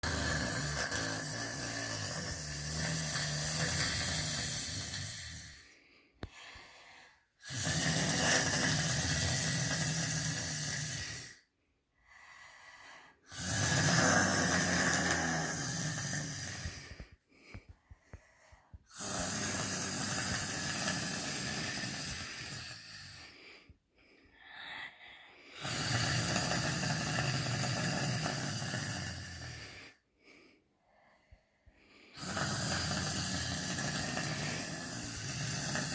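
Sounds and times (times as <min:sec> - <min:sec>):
woman snoring: 0:00.0 - 0:11.5, 0:12.1 - 0:30.0, 0:31.7 - 0:35.9.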